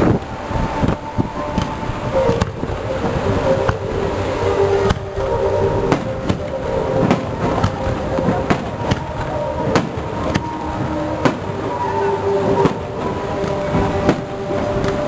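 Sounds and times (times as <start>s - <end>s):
fireworks bangs: 0.0s - 15.0s
fireworks display noise: 0.0s - 15.0s.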